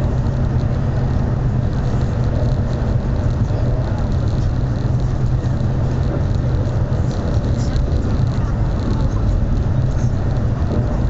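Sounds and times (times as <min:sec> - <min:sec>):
rush of wheel and air noise: 0:00.0 - 0:11.0
train interior rumble: 0:00.0 - 0:11.0.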